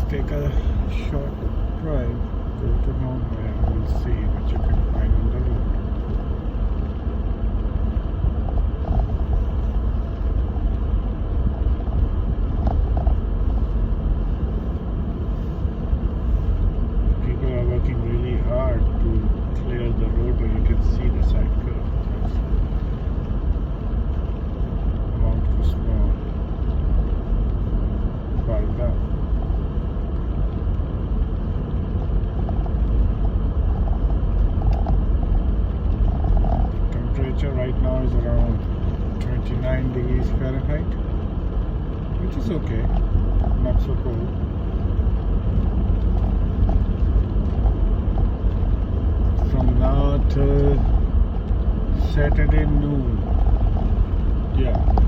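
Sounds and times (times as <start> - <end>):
car driving on snowy road: 0.0 - 55.0.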